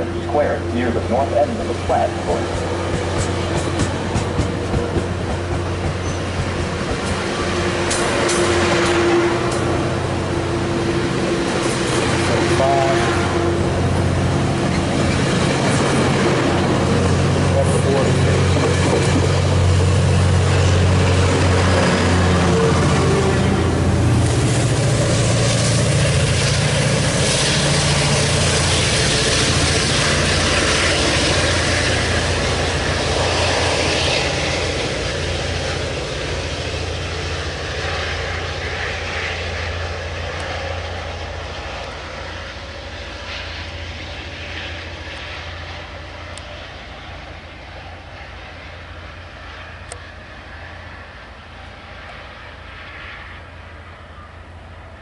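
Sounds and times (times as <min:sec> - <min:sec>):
low diesel engine drone: 0:00.0 - 0:55.0
train wheel and rail noise: 0:00.0 - 0:55.0.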